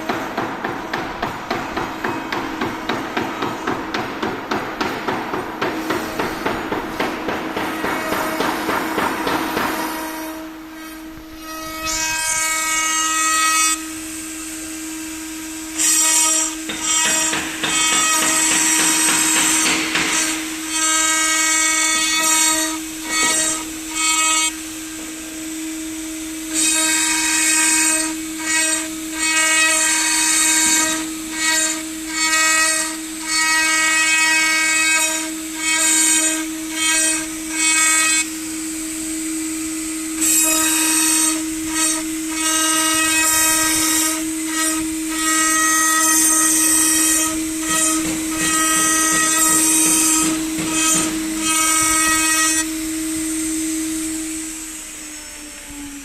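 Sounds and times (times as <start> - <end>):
router bit cutting with hiss: 0.0 - 56.0
router spindle running: 0.0 - 56.0.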